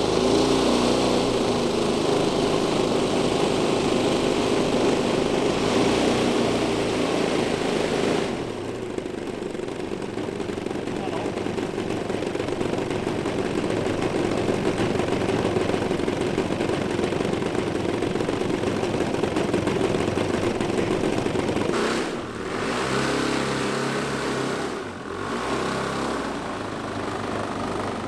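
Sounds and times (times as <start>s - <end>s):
model aircraft engines running: 0.0s - 28.0s.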